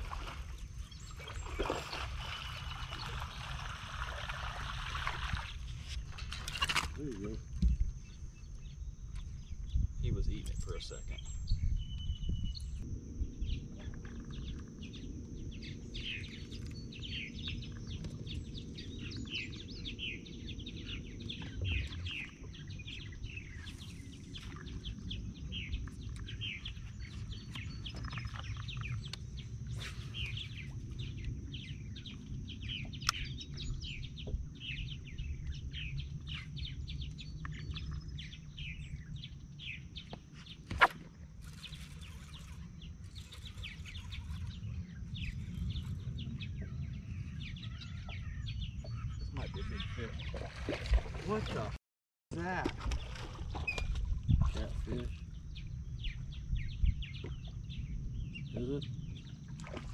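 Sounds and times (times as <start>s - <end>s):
steady low rumble: 0.0s - 40.1s, 41.4s - 50.3s
birds chirping: 0.0s - 51.8s, 52.4s - 59.9s.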